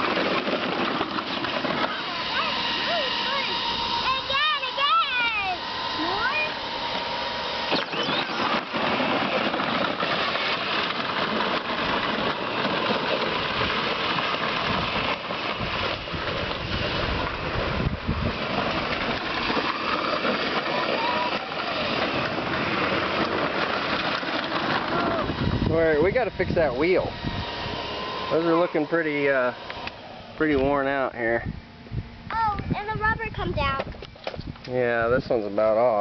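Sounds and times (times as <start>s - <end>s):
plastic wheels rolling over ground: 0.0s - 31.2s, 32.3s - 36.0s
toy car electric motors: 0.0s - 31.3s, 32.3s - 36.0s.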